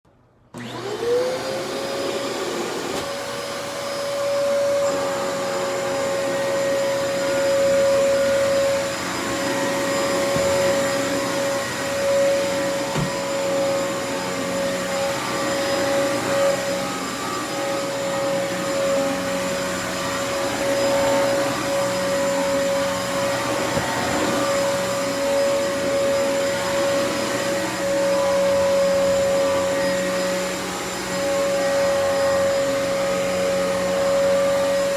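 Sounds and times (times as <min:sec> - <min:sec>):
vacuum cleaner motor whine: 0:00.5 - 0:34.9.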